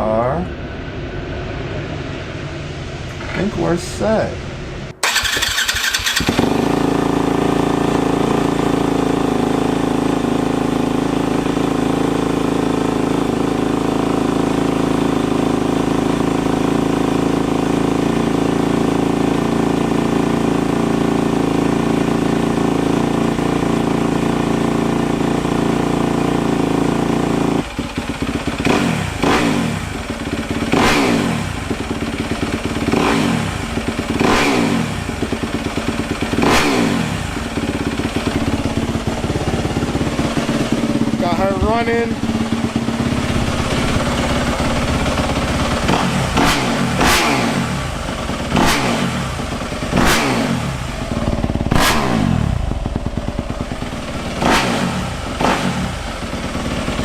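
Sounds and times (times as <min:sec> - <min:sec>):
engine revving: 0:03.1 - 0:57.0
dirt bike engine idling: 0:05.0 - 0:57.0.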